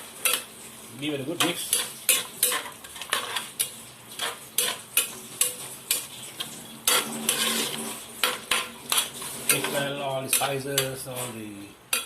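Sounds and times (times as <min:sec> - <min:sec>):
utensil scraping and stirring in pot: 0:00.0 - 0:12.0.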